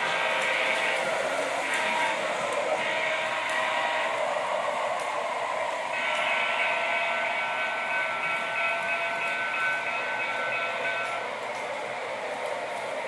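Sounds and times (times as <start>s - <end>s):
model train whistle chord: 0.0s - 11.4s
model trains running on track: 0.0s - 13.0s.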